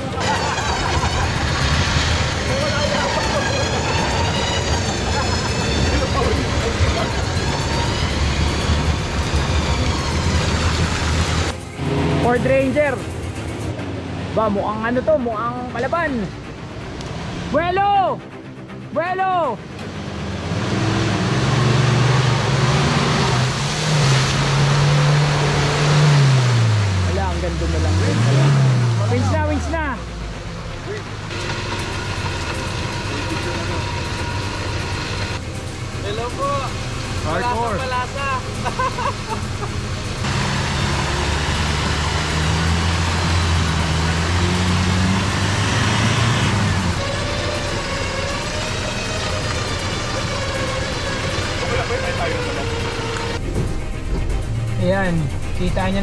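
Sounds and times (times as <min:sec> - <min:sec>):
off-road engine revving hard: 0:00.0 - 0:14.6, 0:19.8 - 0:35.4, 0:36.1 - 0:53.4.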